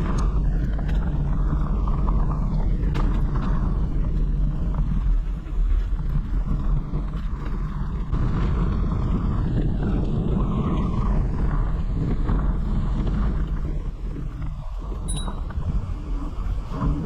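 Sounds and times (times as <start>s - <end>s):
bicycle road noise: 0.0s - 17.0s
wind buffeting microphone: 0.0s - 17.0s.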